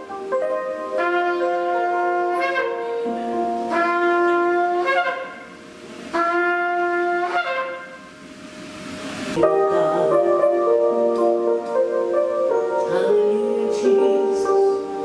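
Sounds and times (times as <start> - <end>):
wind instrument slow melody: 0.0 - 8.2, 9.4 - 15.0.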